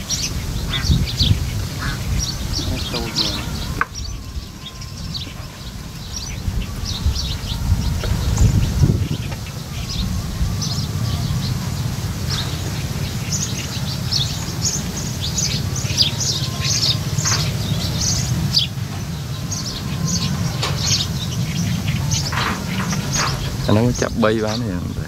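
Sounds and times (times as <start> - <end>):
small birds chirping: 0.0 - 25.0
steady low rumble: 0.0 - 25.0.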